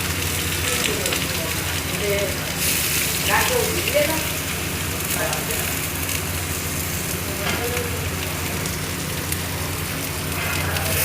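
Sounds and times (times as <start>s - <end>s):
hot oil sizzling in a pan: 0.0s - 11.0s.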